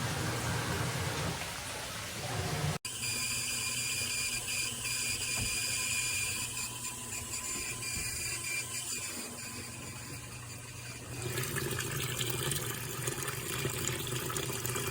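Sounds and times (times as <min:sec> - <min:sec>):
washing machine motor whine: 0:00.0 - 0:14.9.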